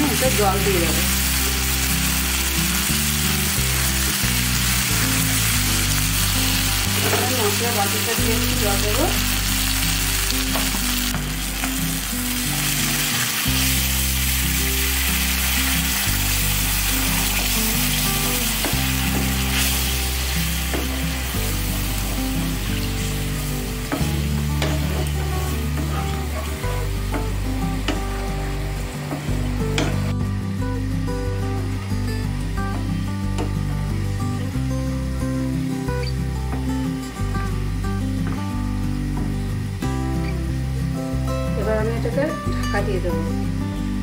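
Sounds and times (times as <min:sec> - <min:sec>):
masala sizzling in hot oil: 0:00.0 - 0:38.0, 0:38.6 - 0:43.4
soft background music: 0:00.0 - 0:44.0.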